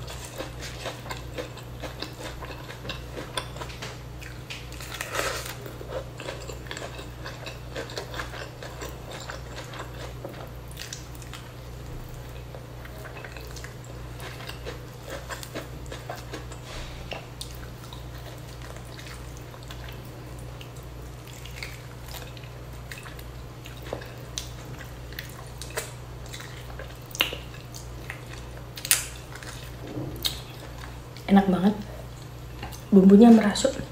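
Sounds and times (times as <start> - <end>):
chewing and mouth clicks: 0.0 - 11.5, 12.1 - 31.3.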